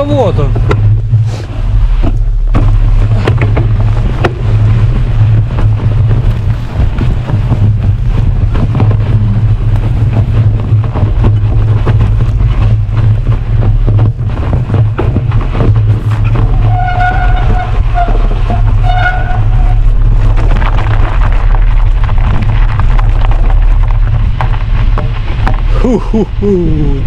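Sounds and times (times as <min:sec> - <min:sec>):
wind buffeting microphone: 0:00.0 - 0:27.0
small clicks and crackles: 0:02.0 - 0:25.7.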